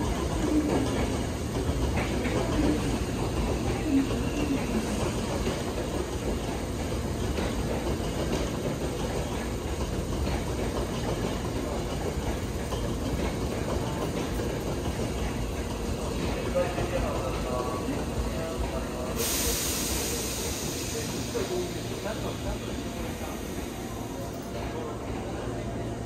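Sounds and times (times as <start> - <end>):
train rumble heard on board: 0.0 - 26.0.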